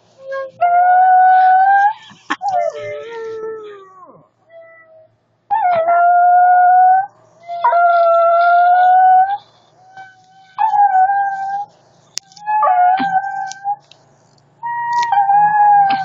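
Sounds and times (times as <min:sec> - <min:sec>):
dog howling: 0:00.2 - 0:11.7, 0:12.4 - 0:13.8, 0:14.6 - 0:16.0.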